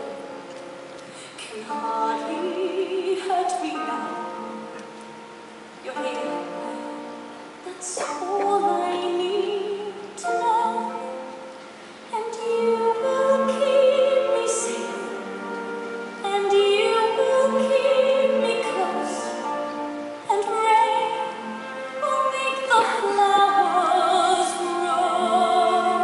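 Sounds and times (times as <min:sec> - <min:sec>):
quiet accompaniment: 0:00.0 - 0:26.0
woman singing ballad: 0:01.1 - 0:05.2, 0:05.8 - 0:26.0.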